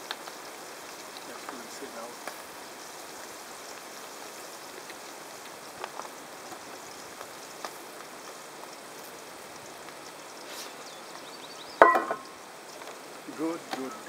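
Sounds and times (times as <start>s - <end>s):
fish sizzling in a pan: 0.0s - 13.9s.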